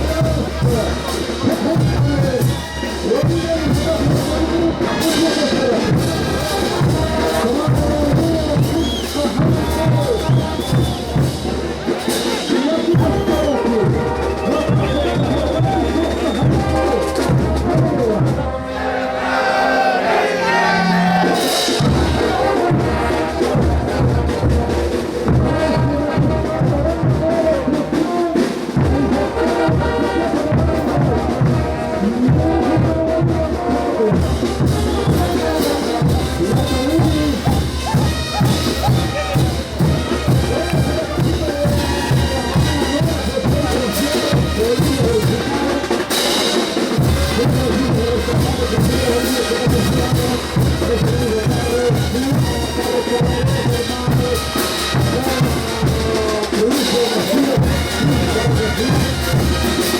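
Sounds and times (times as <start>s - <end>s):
bass drum beat: 0.0s - 18.4s, 28.8s - 56.8s, 57.5s - 59.9s
brass band playing: 0.0s - 59.9s.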